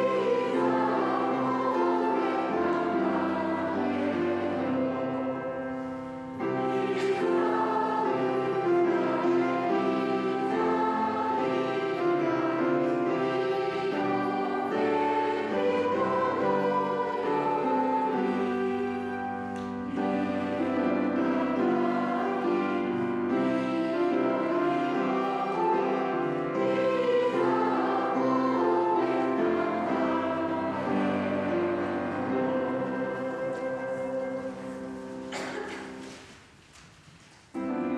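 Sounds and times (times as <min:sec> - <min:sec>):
choir singing a hymn: 0:00.0 - 0:36.0.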